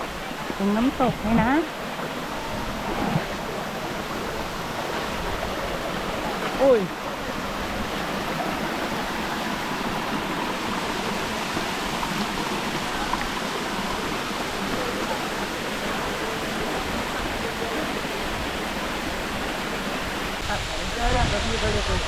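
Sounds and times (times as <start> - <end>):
faint voices: 0.0 - 22.0
waterfall and stream rushing: 0.0 - 22.0.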